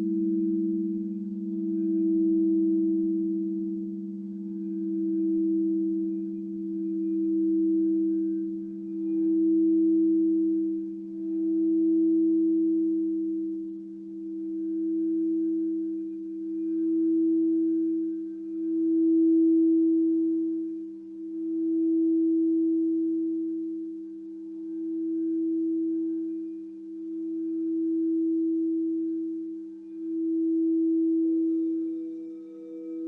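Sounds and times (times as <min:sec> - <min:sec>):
crystal singing bowls ringing: 0:00.0 - 0:33.0.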